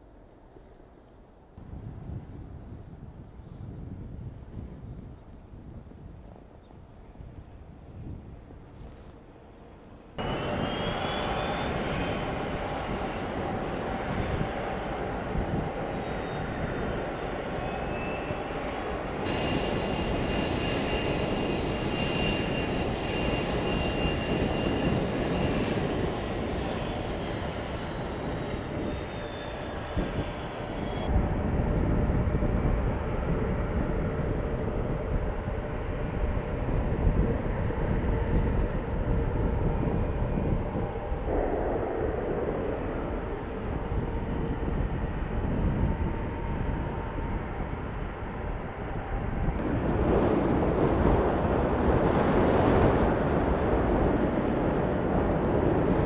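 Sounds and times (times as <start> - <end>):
jet engine rumble: 0.0 - 56.0
jet engine high whine: 6.2 - 56.0.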